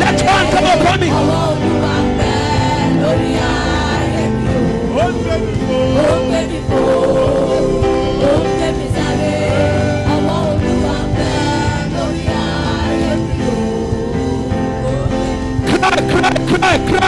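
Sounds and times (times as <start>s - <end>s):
sustained chords: 0.0s - 17.0s
voices singing gospel: 0.0s - 17.0s.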